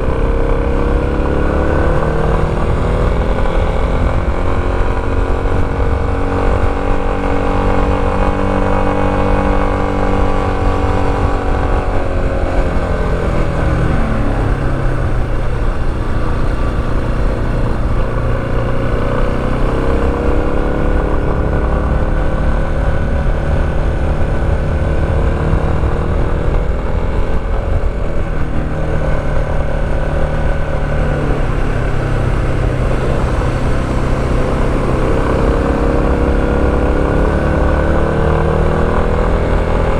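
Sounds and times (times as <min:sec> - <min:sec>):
motorcycle engine changing pitch: 0:00.0 - 0:39.9
steady low rumble: 0:00.8 - 0:39.9.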